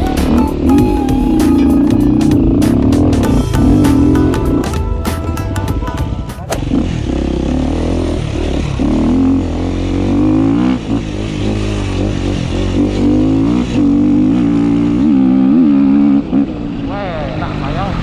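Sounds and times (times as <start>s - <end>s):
dirt bike engine revving: 0.0s - 4.8s, 6.4s - 18.0s.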